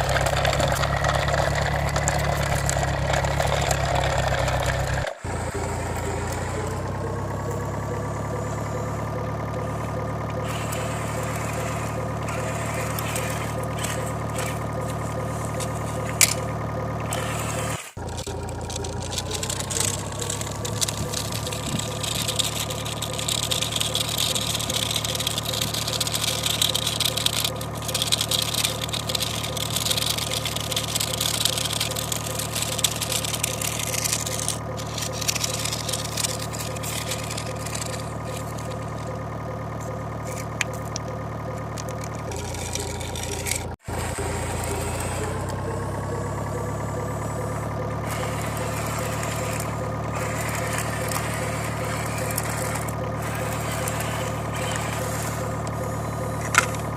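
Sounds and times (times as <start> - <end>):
tractor and loader engines running: 0.0 - 56.9.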